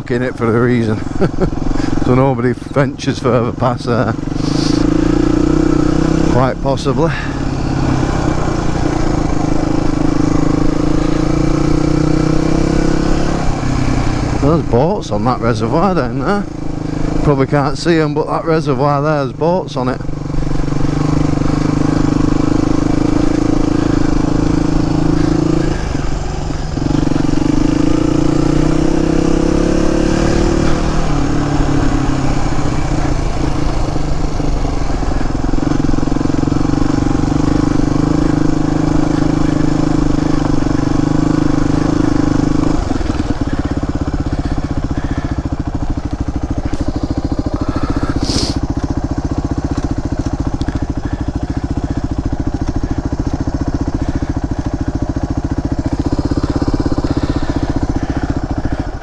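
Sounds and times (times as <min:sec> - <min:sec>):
trail bike engine revving: 0:00.0 - 0:59.0.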